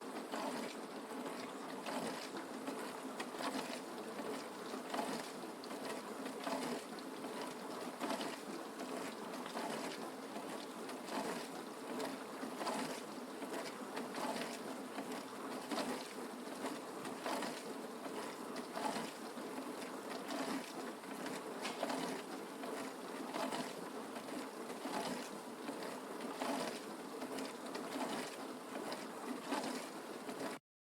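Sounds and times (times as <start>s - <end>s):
dishwasher humming: 0.0s - 30.6s.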